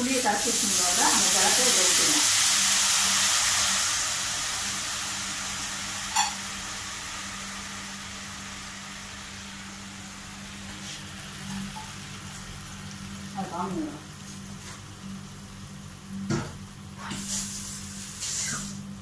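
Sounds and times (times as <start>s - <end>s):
liquid sizzling in hot oil: 0.0s - 19.0s.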